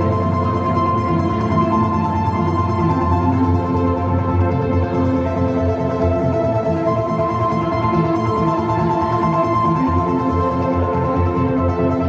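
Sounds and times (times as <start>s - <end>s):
drone music sustained tones: 0.0s - 12.0s.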